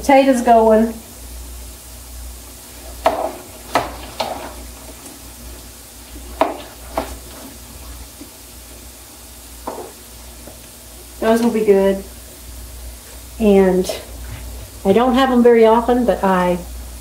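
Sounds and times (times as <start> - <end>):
potatoes sizzling in skillet: 0.4 - 17.0.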